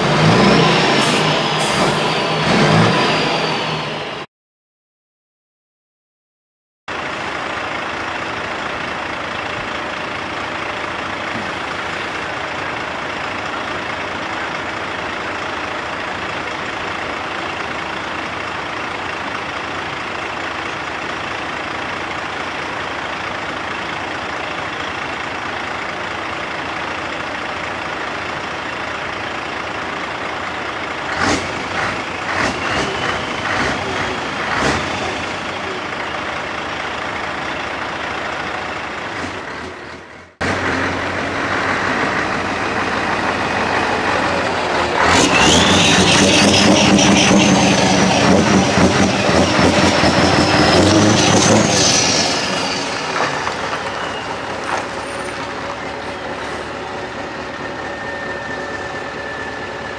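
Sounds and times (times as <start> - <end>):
truck diesel engines running: 0.0 - 4.3, 6.9 - 59.9.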